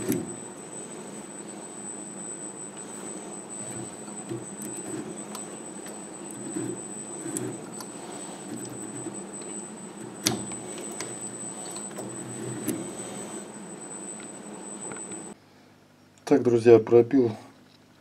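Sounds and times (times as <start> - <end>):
metal cutter scraping: 0.0 - 15.3.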